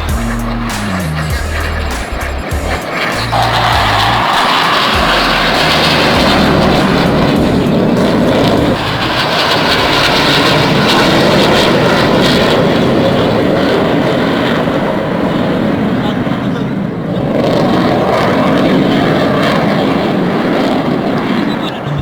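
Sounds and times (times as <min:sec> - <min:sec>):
military aircraft flying overhead: 0:00.0 - 0:22.0.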